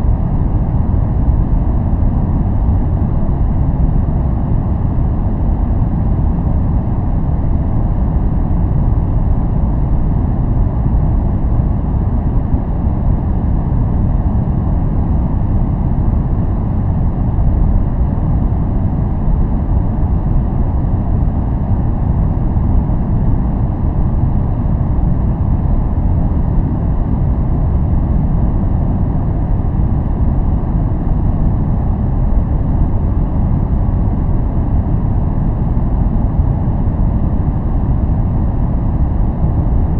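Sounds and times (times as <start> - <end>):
deep steady noise rush: 0.0 - 39.9.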